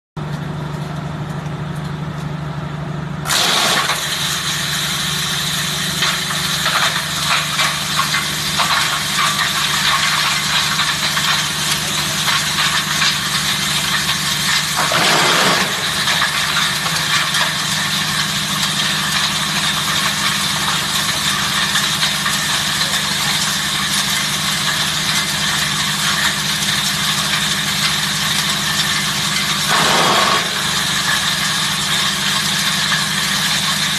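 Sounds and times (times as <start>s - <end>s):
wood chipper grinding wood: 0.2s - 33.9s.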